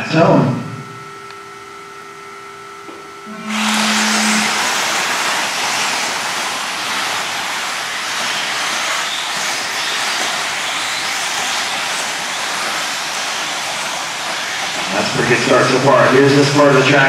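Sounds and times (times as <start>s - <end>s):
rc cars whirring: 3.3s - 17.0s.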